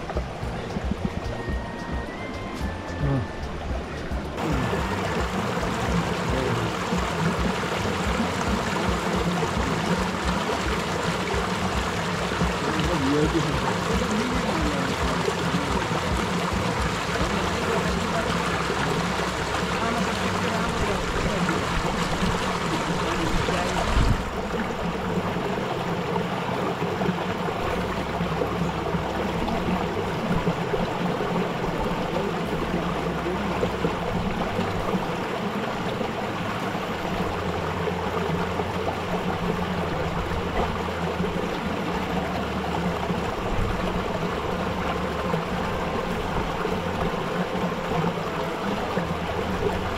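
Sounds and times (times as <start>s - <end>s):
stream rushing over stones: 0.0s - 49.9s.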